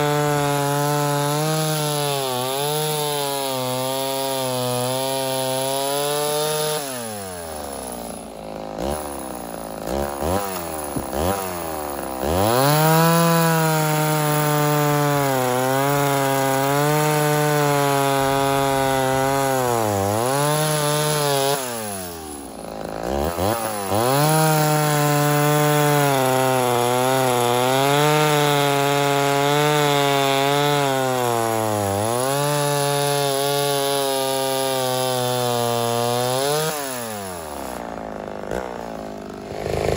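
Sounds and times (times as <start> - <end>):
chainsaw cutting log: 0.0 - 39.9
chainsaw idling and revving: 0.0 - 39.9.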